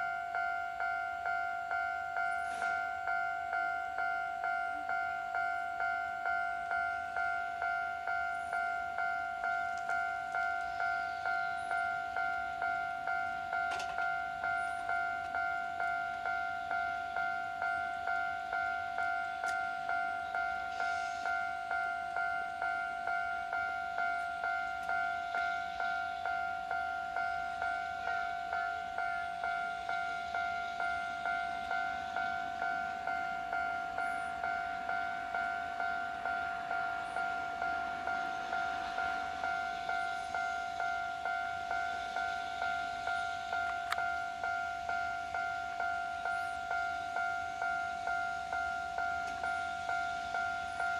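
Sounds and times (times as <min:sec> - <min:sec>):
level-crossing warning bell: 0:00.0 - 0:50.9.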